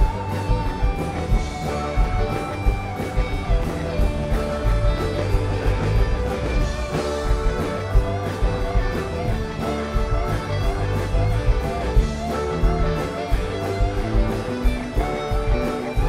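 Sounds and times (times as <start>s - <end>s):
electric guitars: 0.0s - 16.0s
organ: 0.0s - 16.0s
steady drum beat: 0.0s - 16.0s.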